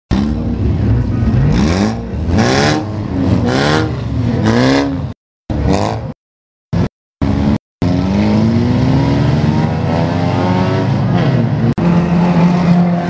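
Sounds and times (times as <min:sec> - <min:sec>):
racing car engines revving: 0:00.1 - 0:06.2, 0:06.8 - 0:13.0.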